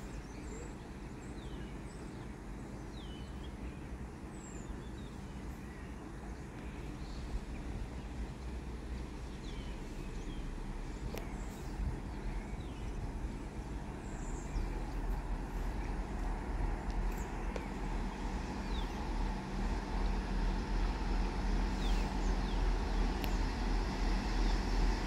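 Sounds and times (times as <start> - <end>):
railcar engine rumbling: 0.0 - 25.0.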